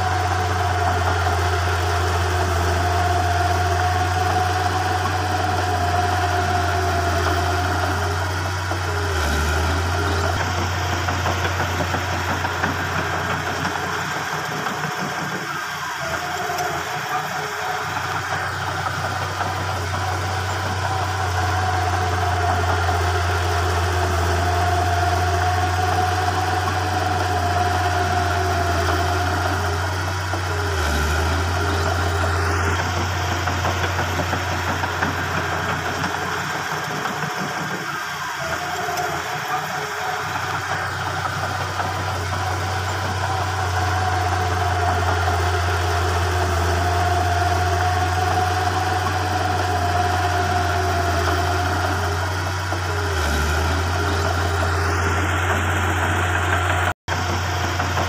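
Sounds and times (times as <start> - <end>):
heavy diesel engines running: 0.0 - 58.0
thin steady whine: 0.0 - 58.0.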